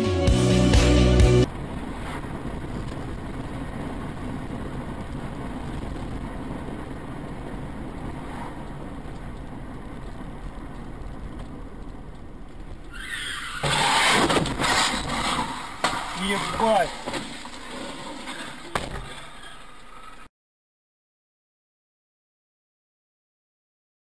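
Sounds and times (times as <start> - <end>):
car engine and tyre hum: 0.4 - 20.3.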